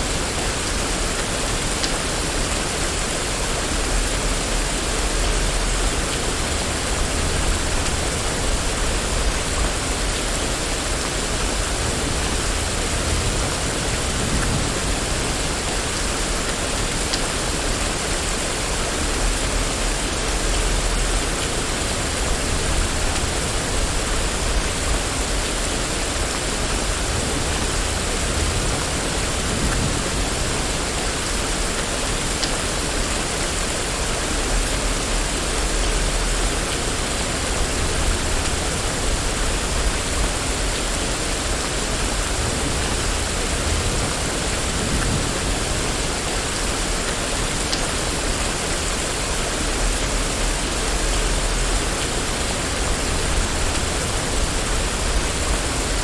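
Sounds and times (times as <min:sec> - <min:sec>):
rain falling on a street: 0:00.0 - 0:56.0.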